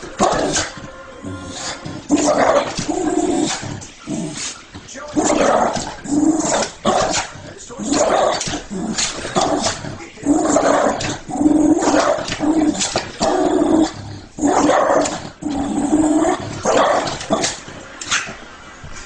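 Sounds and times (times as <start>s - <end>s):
small dog barking and growling: 0.2s - 3.8s, 5.2s - 18.4s.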